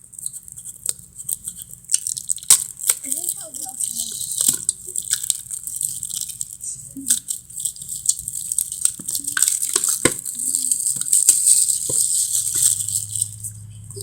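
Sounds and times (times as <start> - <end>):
box and packaging rustling: 0.3 - 14.0.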